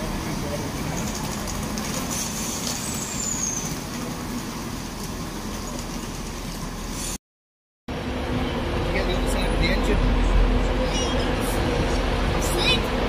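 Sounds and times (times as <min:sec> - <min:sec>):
train engine humming: 0:00.0 - 0:07.2, 0:07.9 - 0:13.0.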